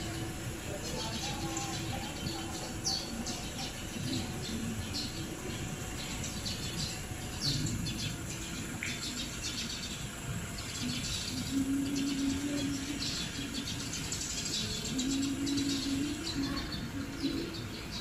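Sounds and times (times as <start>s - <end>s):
low hum: 0.0s - 18.0s
small birds chirping: 0.0s - 18.0s
steady background rumble: 0.0s - 18.0s.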